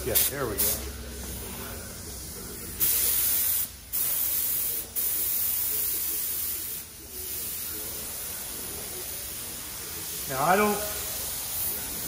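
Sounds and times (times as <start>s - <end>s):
spray gun air hiss: 0.0s - 0.9s, 2.8s - 12.0s.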